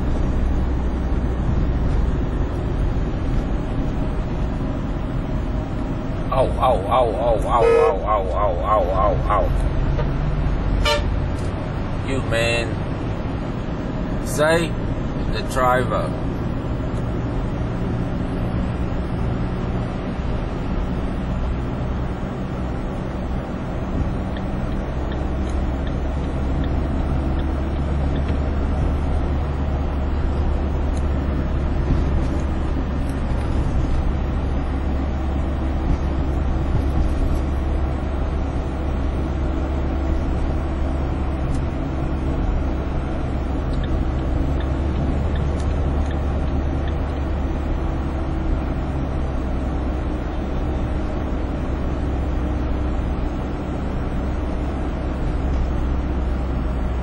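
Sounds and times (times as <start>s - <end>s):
van engine and road noise: 0.0s - 57.0s.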